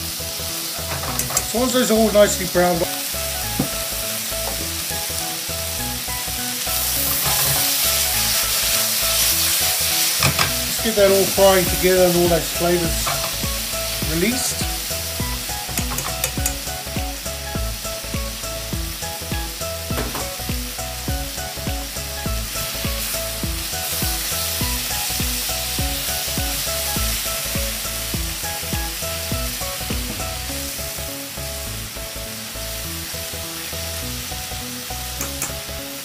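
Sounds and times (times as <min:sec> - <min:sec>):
food sizzling in a pan: 0:00.0 - 0:36.0
light background music: 0:00.0 - 0:36.0.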